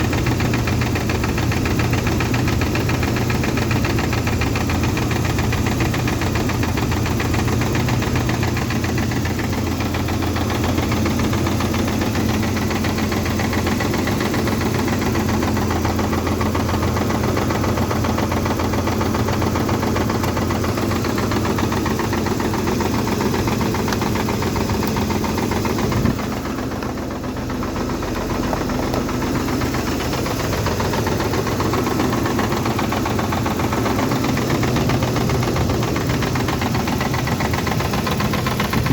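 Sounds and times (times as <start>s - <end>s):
engine running with rapid knock: 0.0s - 38.9s.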